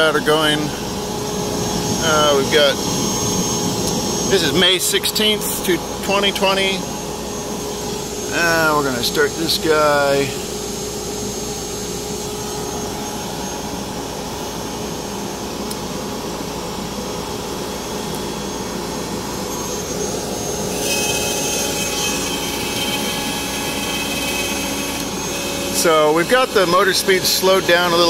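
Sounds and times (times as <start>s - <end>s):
dust collector air rush: 0.0s - 28.0s
router spindle whine: 0.0s - 28.0s.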